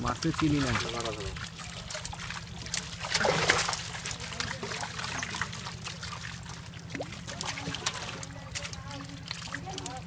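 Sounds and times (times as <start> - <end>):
fish flapping in water: 0.0 - 10.0
water splashing and trickling: 0.0 - 10.0.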